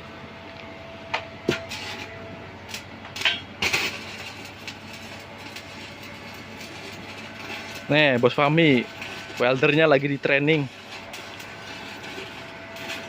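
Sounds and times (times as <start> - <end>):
steady machine noise: 0.0 - 13.0.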